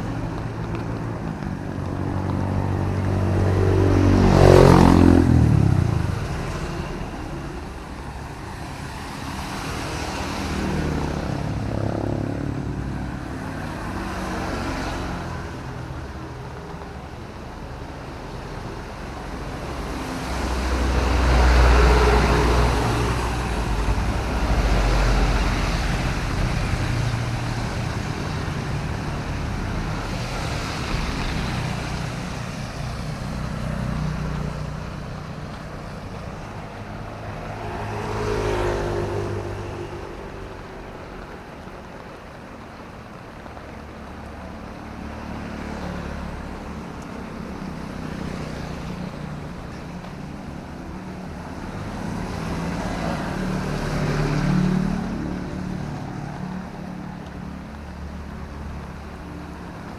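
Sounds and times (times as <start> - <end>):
drizzling rain: 0.0 - 59.9
heavy vehicle passing: 0.0 - 59.9
traffic noise: 0.0 - 59.9
vehicle passing: 0.0 - 59.9.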